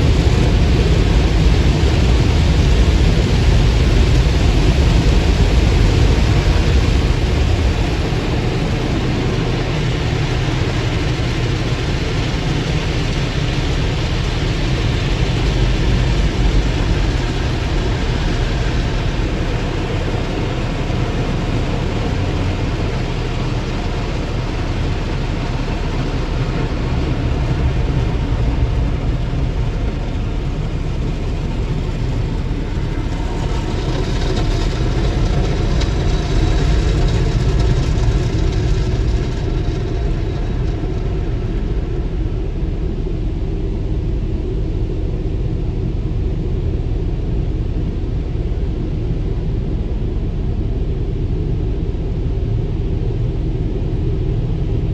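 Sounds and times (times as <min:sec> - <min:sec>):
car wash low rumble: 0:00.0 - 0:54.9.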